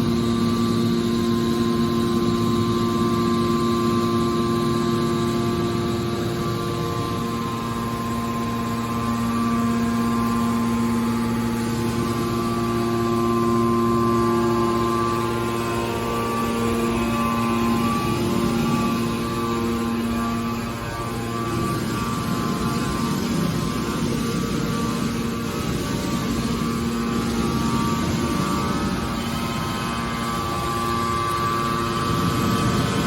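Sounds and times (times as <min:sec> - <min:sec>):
hydraulic power unit humming: 0:00.0 - 0:33.0.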